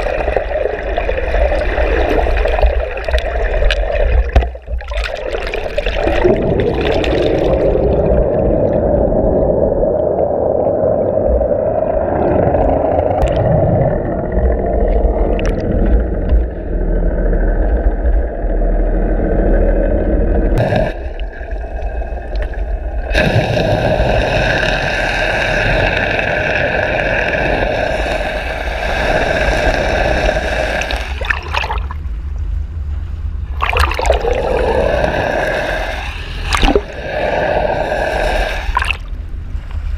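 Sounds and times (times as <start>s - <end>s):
water rushing past: 0.0s - 32.0s, 33.5s - 39.2s
boat engine drone underwater: 0.0s - 39.9s.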